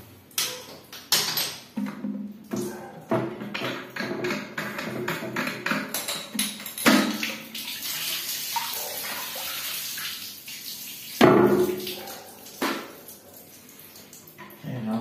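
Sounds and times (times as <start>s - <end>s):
water running: 1.8s - 15.0s.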